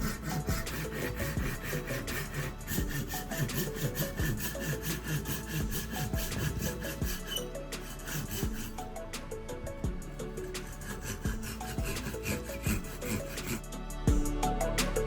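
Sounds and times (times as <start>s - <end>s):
saw cutting wood: 0.0s - 9.3s, 10.1s - 13.7s.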